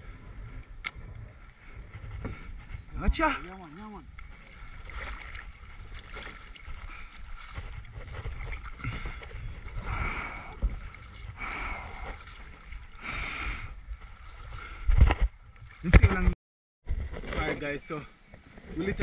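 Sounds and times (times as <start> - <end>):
paddle splashing water: 0.0 - 16.4.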